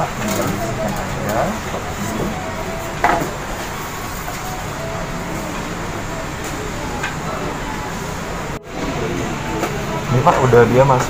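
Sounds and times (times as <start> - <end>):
busy store din: 0.0 - 11.0.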